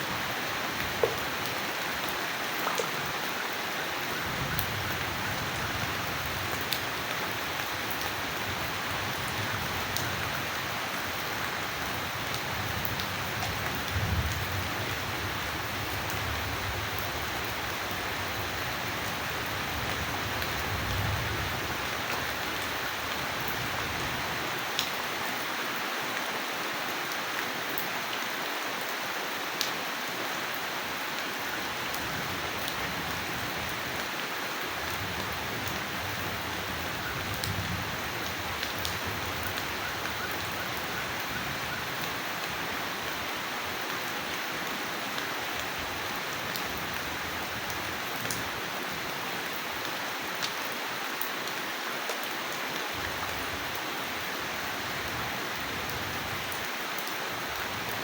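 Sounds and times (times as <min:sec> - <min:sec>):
rain drops ticking on a surface: 0:00.0 - 0:58.0
rain falling: 0:00.0 - 0:58.0.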